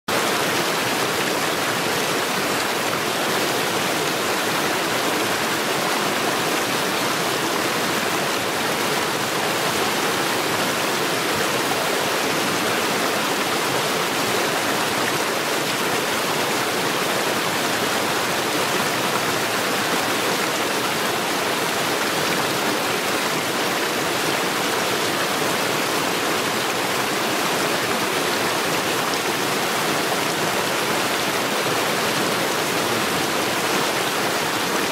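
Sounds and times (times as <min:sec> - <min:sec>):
stream water rushing over stones: 0:00.1 - 0:34.9.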